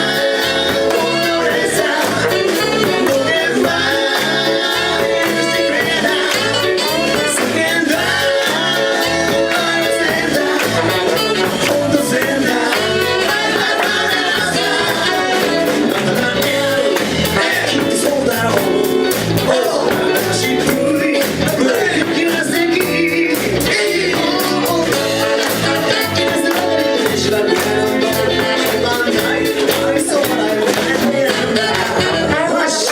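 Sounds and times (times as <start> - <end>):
instruments with steady beat: 0.0 - 32.5
person singing live: 0.0 - 32.9.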